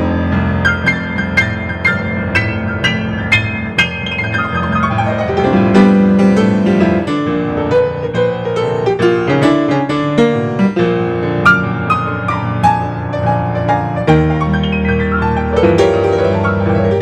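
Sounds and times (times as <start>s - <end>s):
solo grand piano: 0.0s - 17.0s.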